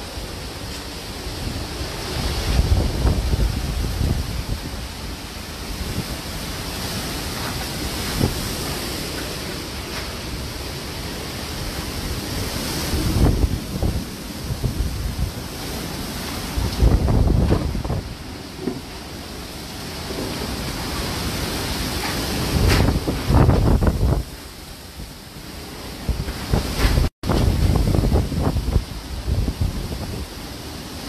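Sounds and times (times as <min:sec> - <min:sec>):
wind gusting on microphone: 0:00.0 - 0:31.0
wind hissing through trees: 0:00.0 - 0:31.0.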